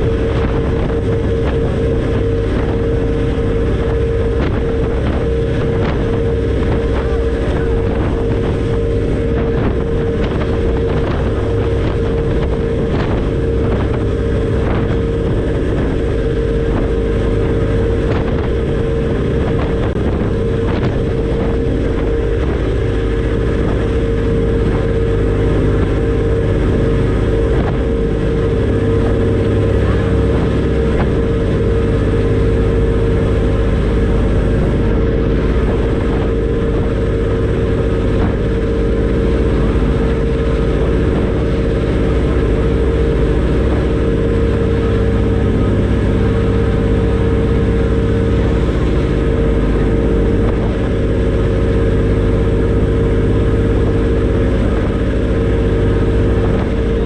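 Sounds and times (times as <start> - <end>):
ferry engines rumbling: 0.0 - 57.0
steady droning tone: 0.0 - 57.0.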